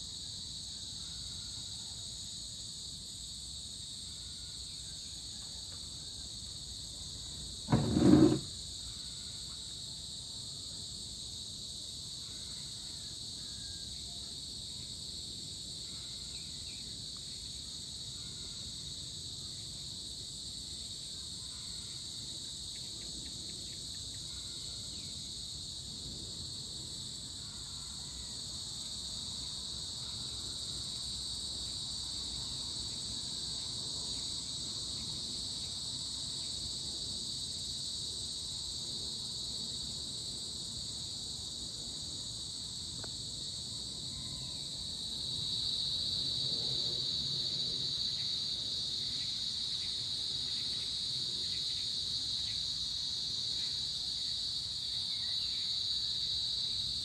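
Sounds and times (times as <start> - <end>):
insects trilling buzz: 0.0 - 57.0.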